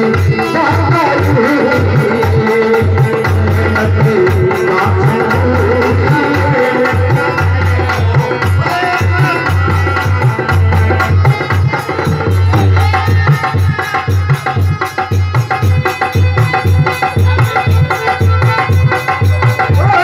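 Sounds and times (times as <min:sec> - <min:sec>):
devotional music: 0:00.0 - 0:20.0
fast percussion strikes: 0:00.0 - 0:20.0
hand drums beating: 0:00.0 - 0:20.0.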